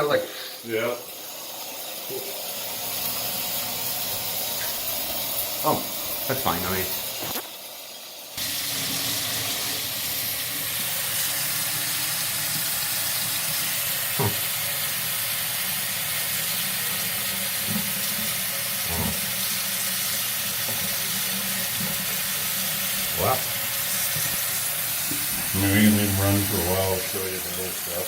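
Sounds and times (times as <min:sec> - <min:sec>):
tap water running: 0:00.0 - 0:28.0.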